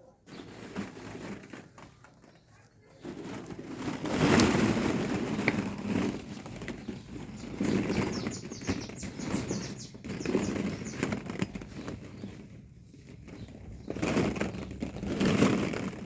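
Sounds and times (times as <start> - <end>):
plastic balls rustling and clattering: 0.0 - 16.0.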